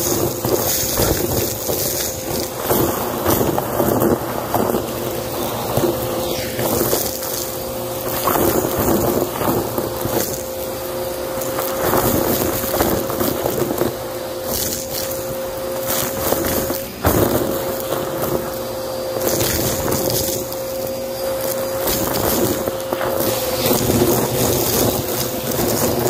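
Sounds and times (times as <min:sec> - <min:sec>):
debris rattling up vacuum hose: 0:00.0 - 0:26.0
vacuum cleaner motor whine: 0:00.0 - 0:26.0.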